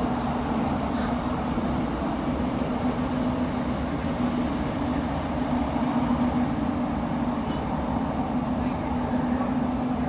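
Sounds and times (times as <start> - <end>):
diesel engine hum: 0.0 - 10.0
wheels rumbling on rails: 0.0 - 10.0.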